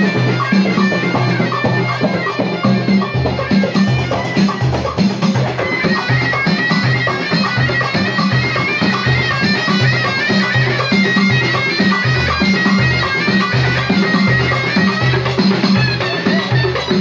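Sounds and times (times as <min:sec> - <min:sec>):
large drums beating: 0:00.0 - 0:17.0
shrill reed pipe melody: 0:00.0 - 0:17.0.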